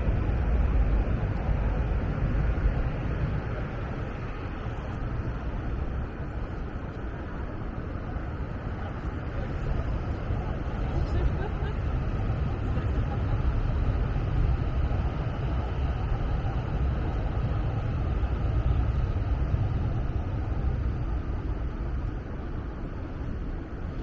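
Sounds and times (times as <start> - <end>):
street noise hiss: 0.0 - 24.0
traffic rumble: 0.0 - 24.0.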